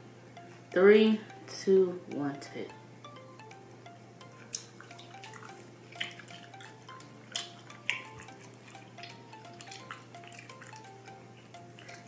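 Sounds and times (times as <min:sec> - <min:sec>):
soft chime-like music: 0:00.3 - 0:12.0.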